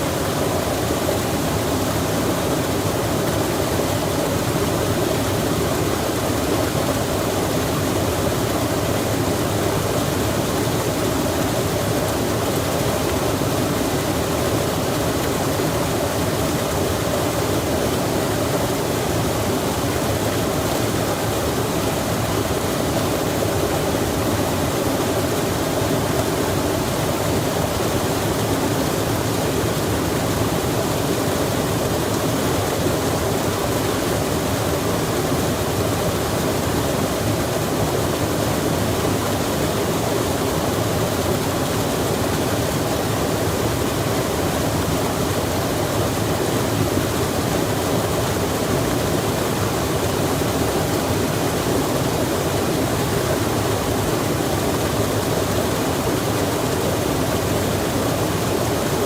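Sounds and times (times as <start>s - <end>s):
rushing stream: 0.0s - 59.0s.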